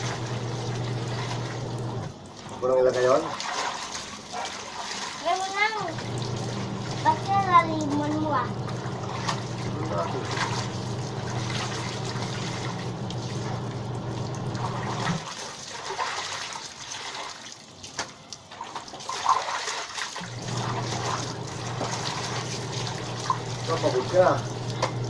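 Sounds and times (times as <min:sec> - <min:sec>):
clothes sloshing in soapy water: 0:00.0 - 0:25.0
water trickling into tub: 0:00.0 - 0:25.0.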